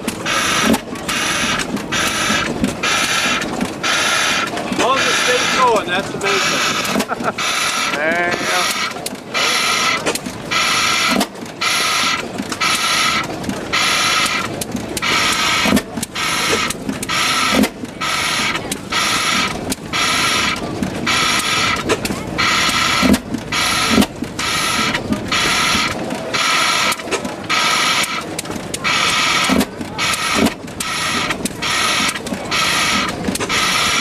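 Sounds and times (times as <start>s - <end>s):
engine buzzing chatter: 0.0s - 34.0s.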